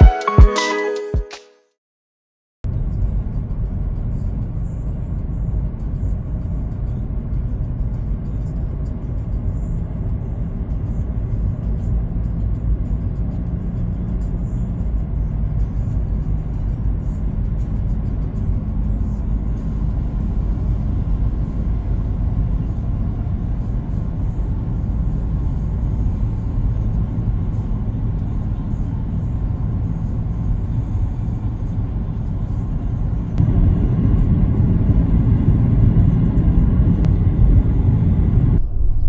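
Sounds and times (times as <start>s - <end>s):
car road and wind noise: 2.7s - 39.0s.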